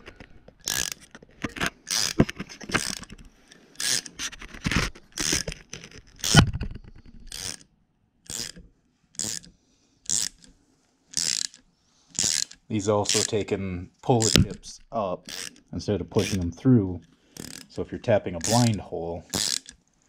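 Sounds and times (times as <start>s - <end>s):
tap wrench scraping strokes: 0.0s - 7.6s, 8.3s - 10.5s, 11.1s - 13.5s, 14.1s - 16.5s, 17.3s - 19.8s.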